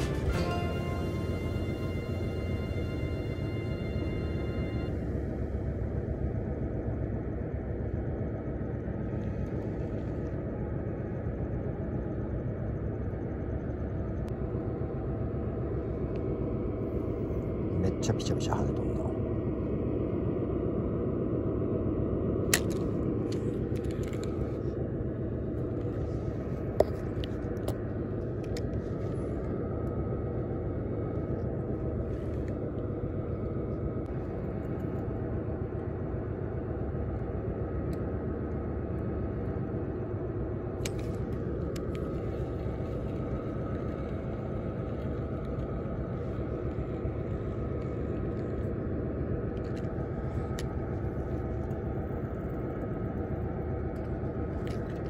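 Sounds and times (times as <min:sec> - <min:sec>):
low rumble with faint hum: 0:00.0 - 0:55.0.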